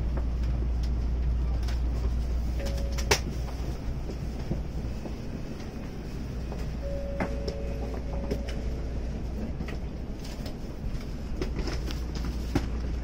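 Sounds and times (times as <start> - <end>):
train car low rumble: 0.0 - 13.0.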